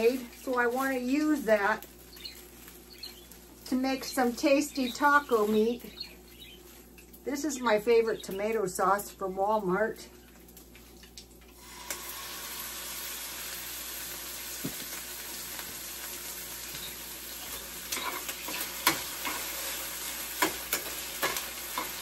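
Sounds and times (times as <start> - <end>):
meat sizzling in a frying pan: 0.0 - 7.2, 10.4 - 22.0.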